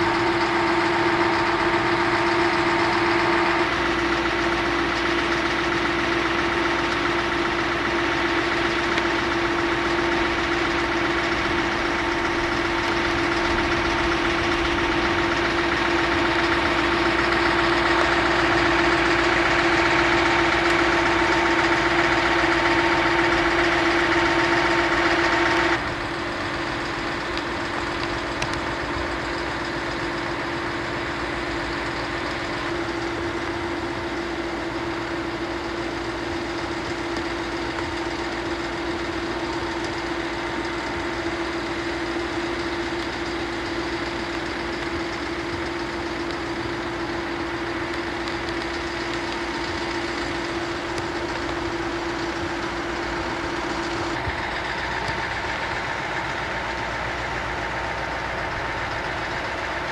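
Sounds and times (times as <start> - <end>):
diesel train engine idling: 0.0 - 59.9.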